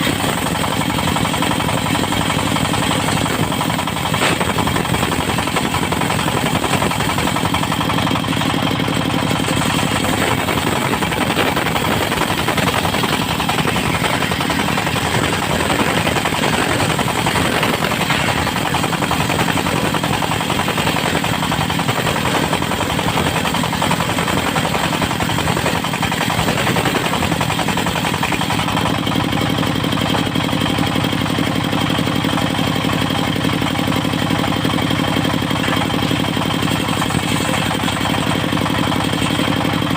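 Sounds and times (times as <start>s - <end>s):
sawmill engine chugging: 0.0s - 39.9s.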